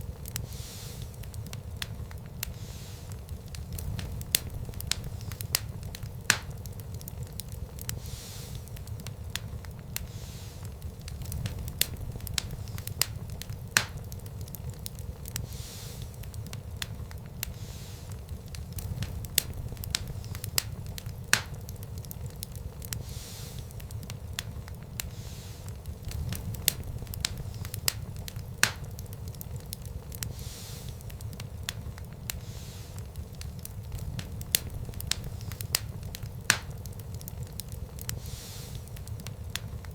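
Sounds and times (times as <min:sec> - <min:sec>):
fire pops and snaps: 0:00.0 - 0:39.9
soft hiss: 0:00.0 - 0:39.9
wood fire crackling: 0:00.0 - 0:39.9.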